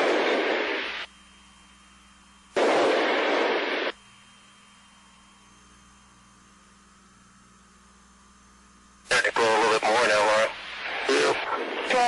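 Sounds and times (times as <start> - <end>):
burst of static: 0.0 - 12.0
faint intercom hiss and hum: 0.0 - 12.0.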